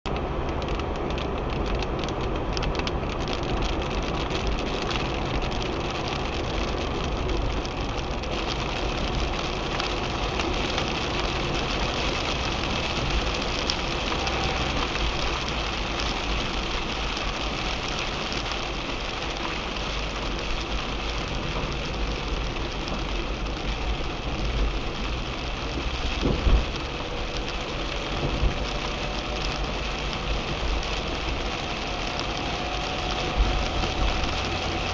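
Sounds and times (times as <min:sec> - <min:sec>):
car driving rumble: 0:00.1 - 0:34.9
rain on car roof: 0:00.1 - 0:34.9.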